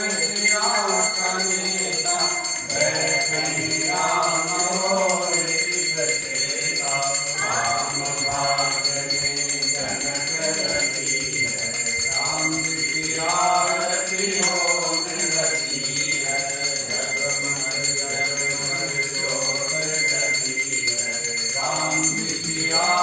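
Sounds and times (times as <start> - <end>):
bell rung rapidly: 0.0 - 23.0
group singing a hymn: 0.0 - 23.0.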